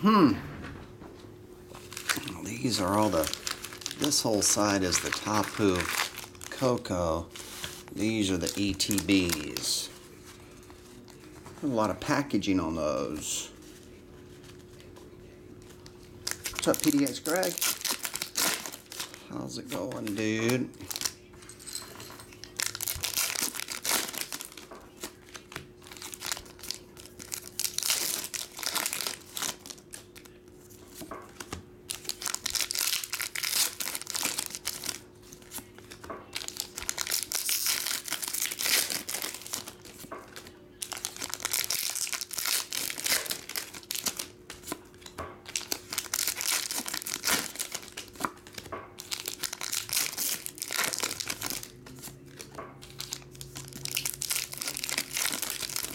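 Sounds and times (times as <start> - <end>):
plastic shrink-wrap rustling: 1.8 - 11.8, 15.9 - 21.2, 22.4 - 31.1, 31.9 - 55.9.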